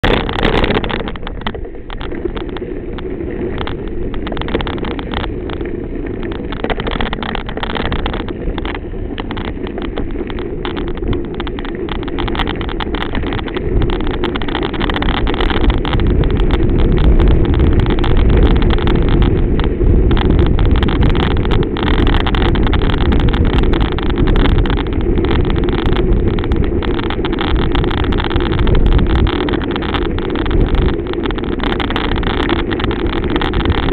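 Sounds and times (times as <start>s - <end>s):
wheels rolling on gravel: 0.0s - 33.9s
wind rushing over microphone: 0.0s - 33.9s.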